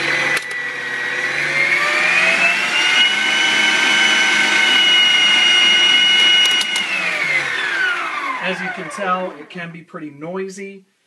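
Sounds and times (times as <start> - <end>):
stand mixer motor whine: 0.0 - 9.5.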